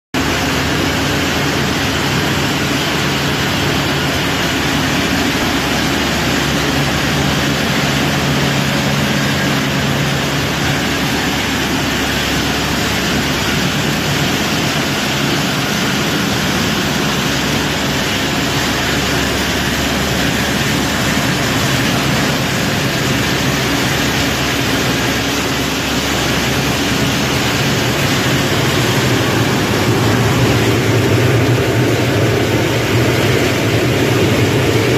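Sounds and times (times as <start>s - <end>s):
loud machine running: 0.2s - 34.9s
low hum: 0.2s - 34.9s.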